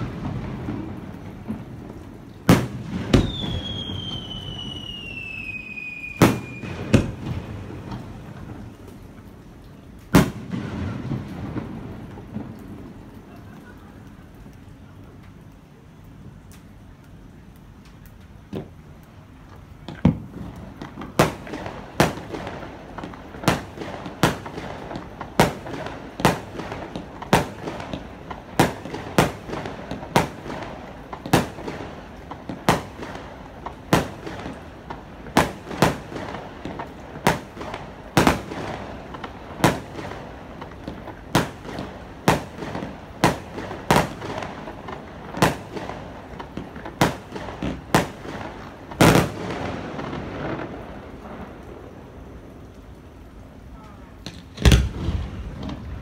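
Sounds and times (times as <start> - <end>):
fireworks bangs: 0.0 - 9.2, 10.1 - 14.2, 19.8 - 52.1, 53.9 - 56.0
steady background noise: 0.0 - 56.0.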